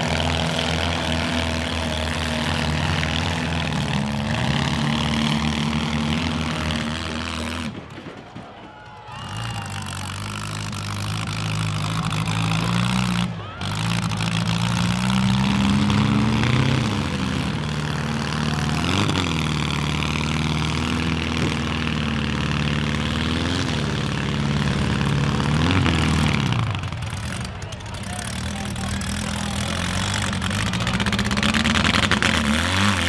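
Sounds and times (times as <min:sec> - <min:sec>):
car engines revving: 0:00.0 - 0:08.1, 0:09.0 - 0:33.0.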